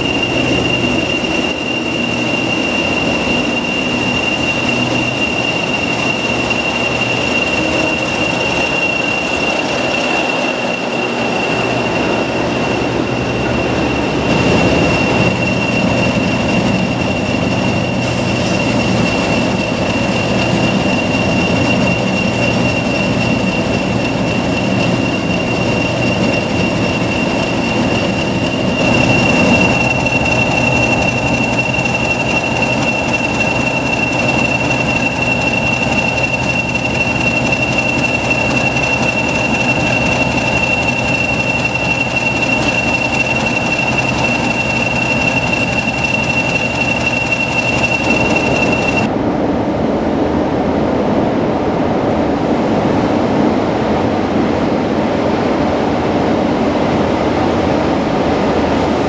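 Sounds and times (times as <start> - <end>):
piercing turbocharger whistle: 0.0 - 49.1
diesel locomotive engine rumbling: 0.0 - 59.0.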